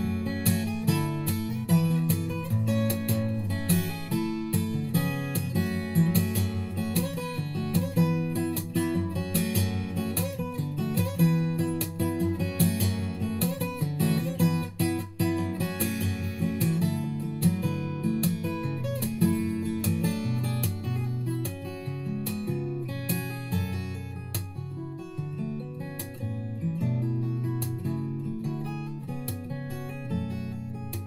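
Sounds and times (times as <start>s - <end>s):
acoustic guitar music: 0.0s - 31.0s.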